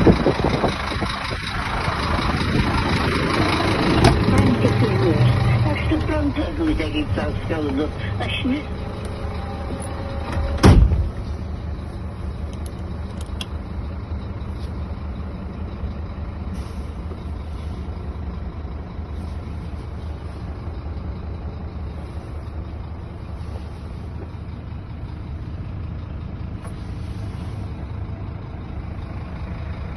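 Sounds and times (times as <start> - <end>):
truck idling: 0.0 - 29.9.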